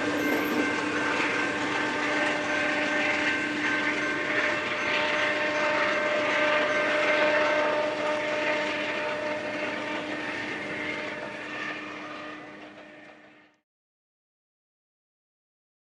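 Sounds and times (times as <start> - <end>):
diesel train droning: 0.0 - 13.6.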